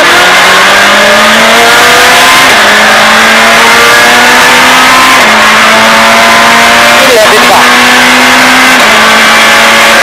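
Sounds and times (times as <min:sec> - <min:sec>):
car engine at full throttle: 0:00.0 - 0:10.0
road and wind noise: 0:00.0 - 0:10.0.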